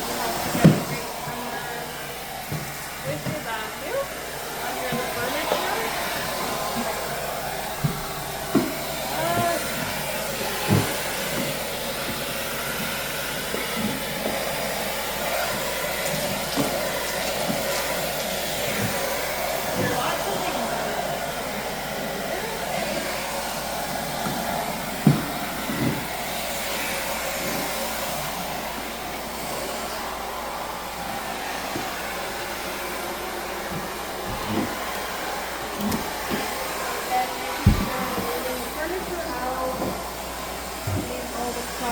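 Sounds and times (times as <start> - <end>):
vacuum cleaner running: 0.0 - 41.9
vacuum tool knocking: 0.2 - 41.9.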